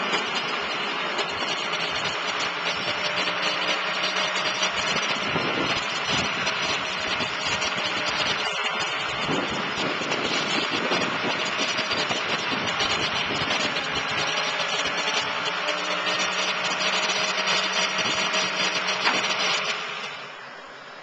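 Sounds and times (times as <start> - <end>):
hydraulic wheel-lift whirring: 0.0 - 21.0
truck diesel engine running: 0.0 - 21.0.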